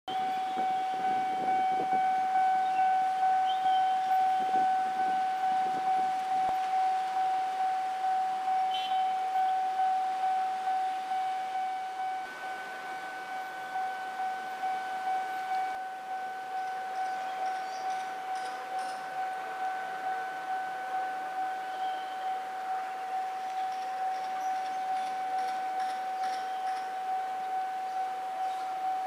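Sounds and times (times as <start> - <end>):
level crossing warning bell ringing: 0.1 - 29.0.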